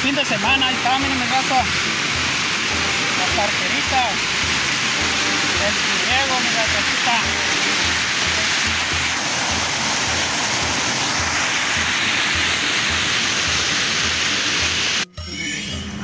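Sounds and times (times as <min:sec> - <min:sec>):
creek water rushing: 0:00.0 - 0:15.0
bass beat of music: 0:00.4 - 0:16.0.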